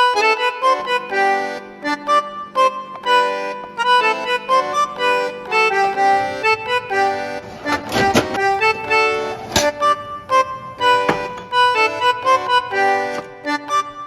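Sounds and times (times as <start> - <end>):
lively instrumental music: 0.0 - 14.0.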